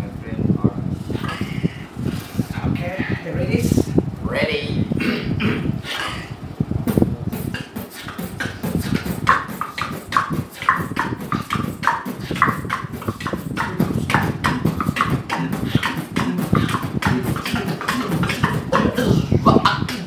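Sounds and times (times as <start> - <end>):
beatboxing: 1.0 - 3.2, 4.9 - 20.0.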